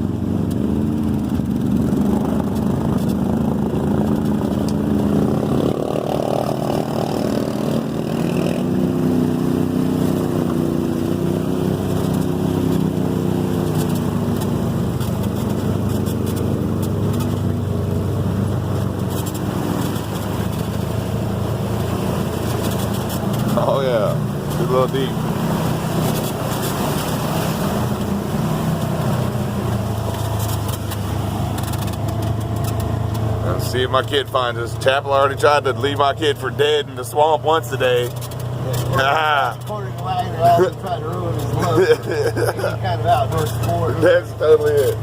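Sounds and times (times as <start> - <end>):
off-road vehicle engine running: 0.0 - 45.0.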